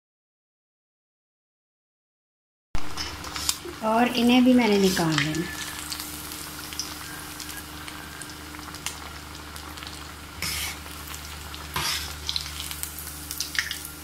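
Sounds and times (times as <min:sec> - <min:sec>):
food deep-frying in oil: 0:02.8 - 0:14.0.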